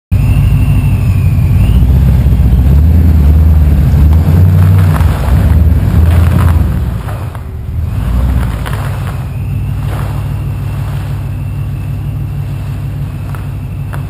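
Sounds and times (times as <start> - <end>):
car engine revving hard: 0.2 - 14.0.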